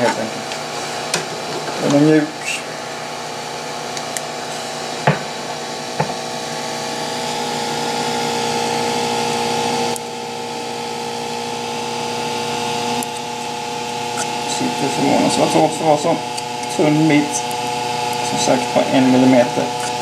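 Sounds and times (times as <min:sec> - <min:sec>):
cooling fan whirring: 0:00.0 - 0:20.0.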